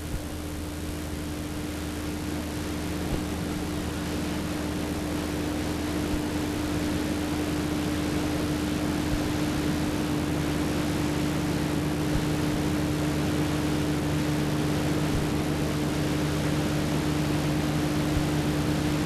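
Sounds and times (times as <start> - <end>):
low electrical hum: 0.0 - 19.0
steady hiss: 0.0 - 19.0.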